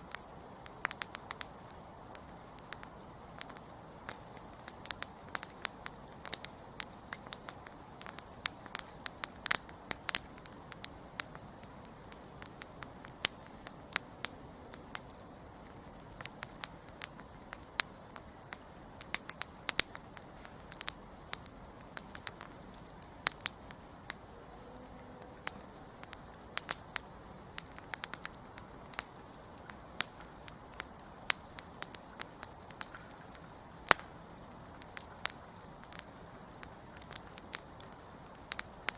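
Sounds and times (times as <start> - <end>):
campfire crackling and popping: 0.0 - 38.9
low hiss of flames: 0.0 - 38.9.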